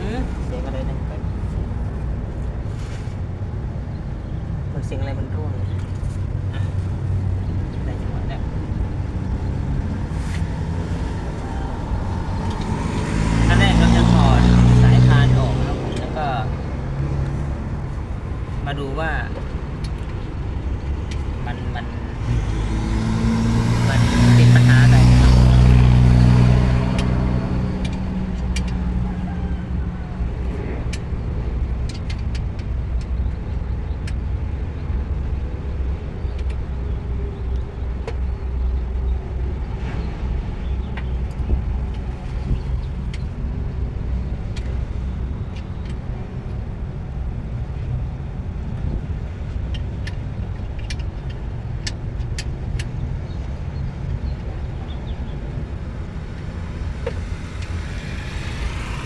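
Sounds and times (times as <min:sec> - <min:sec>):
low engine rumble: 0:00.0 - 0:59.0.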